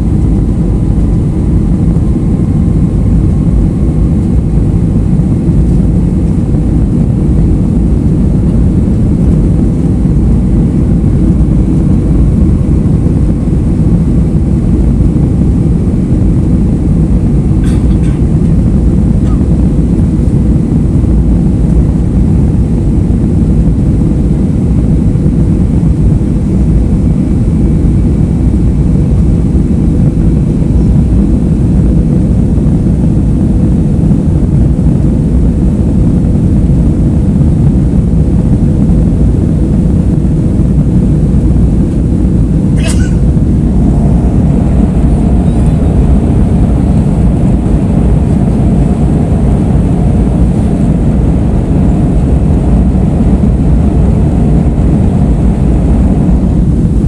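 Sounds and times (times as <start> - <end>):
airliner cabin rumble: 0.0 - 57.0
faint steady hum: 0.0 - 57.0.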